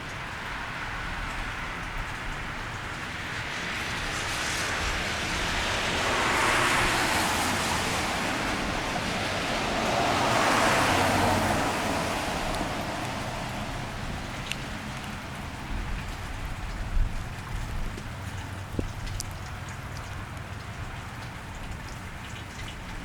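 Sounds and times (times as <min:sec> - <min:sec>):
steady rain: 0:00.0 - 0:23.0
tyres hissing on wet street: 0:00.0 - 0:23.0.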